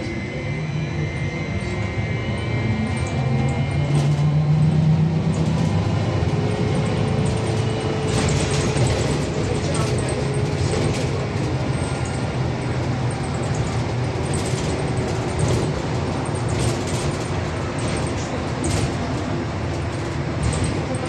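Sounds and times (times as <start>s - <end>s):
low rumble of tyres: 0.0s - 21.0s.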